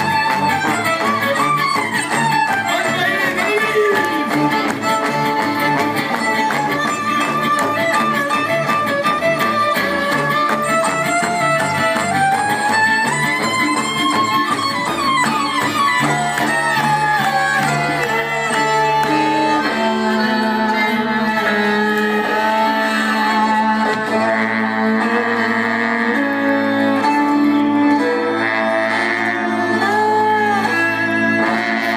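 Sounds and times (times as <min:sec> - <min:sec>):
guitar: 0:00.0 - 0:31.9
violin melody: 0:00.0 - 0:31.9.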